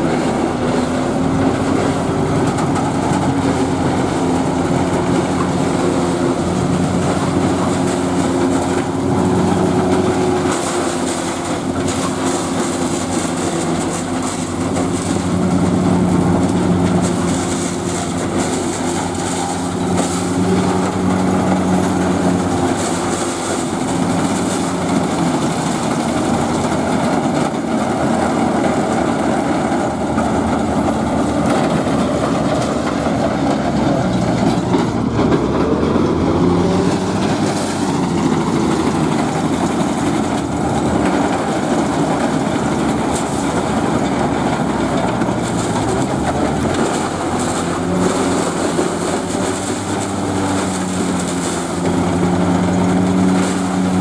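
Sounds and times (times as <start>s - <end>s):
forage harvester chopping maize: 0.0s - 54.0s
tractor diesel engines running: 0.0s - 54.0s.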